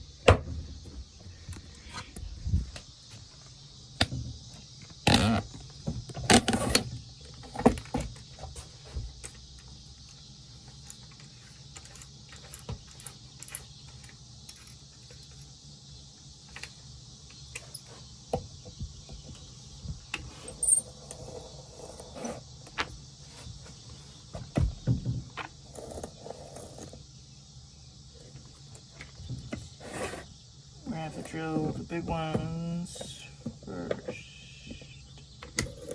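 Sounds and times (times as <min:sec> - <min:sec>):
crickets chirring: 0:00.0 - 0:35.9.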